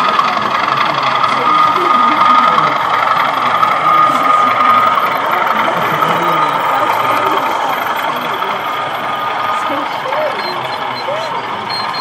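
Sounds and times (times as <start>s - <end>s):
model train engine drone: 0.0s - 12.0s
murmur of background chatter: 0.0s - 12.0s
thin constant whine: 0.0s - 12.0s.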